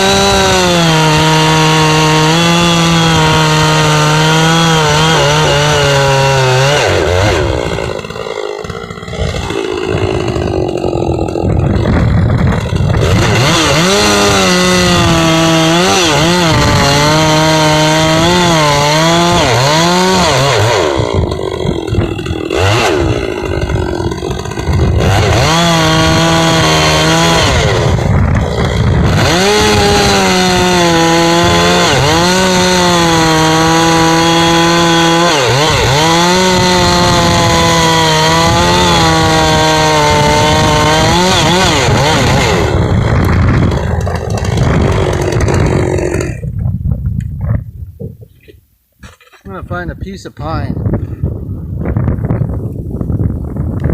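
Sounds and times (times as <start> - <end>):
chainsaw cutting wood: 0.0 - 46.7.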